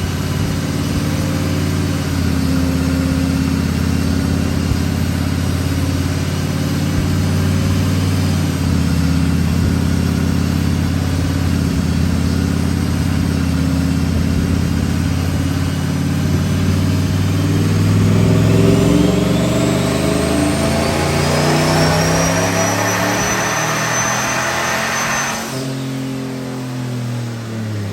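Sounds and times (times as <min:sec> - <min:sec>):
engine running: 0:00.0 - 0:27.9
high turbo whine: 0:00.0 - 0:27.9.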